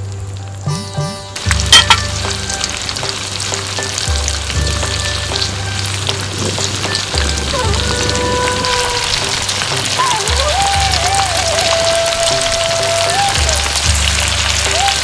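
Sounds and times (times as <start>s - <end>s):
background music: 0.0s - 15.0s
food sizzling in oil: 0.0s - 15.0s.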